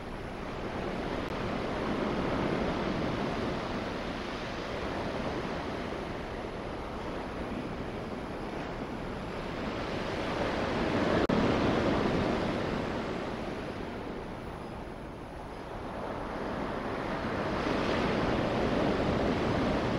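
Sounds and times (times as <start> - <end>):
ocean surf breaking: 0.0 - 19.9.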